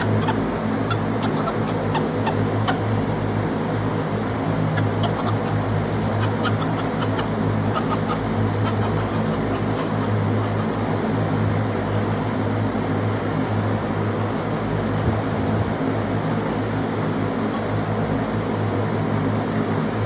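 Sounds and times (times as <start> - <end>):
chicks peeping: 0.0 - 17.9
low mechanical hum: 0.0 - 20.0.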